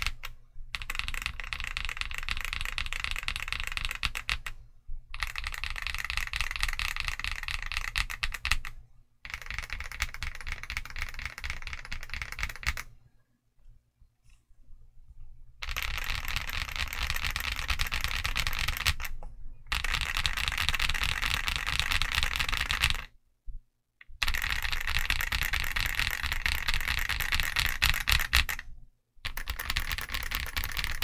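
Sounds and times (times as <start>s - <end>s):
mechanical keyboard typing: 0.0s - 12.9s, 15.6s - 23.1s, 24.1s - 31.0s.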